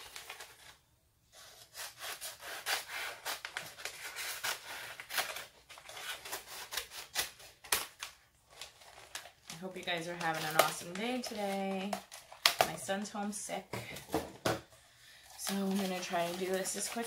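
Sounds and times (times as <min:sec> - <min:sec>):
plastic sheet crinkling: 0:00.0 - 0:02.0, 0:03.0 - 0:13.4, 0:15.2 - 0:17.0.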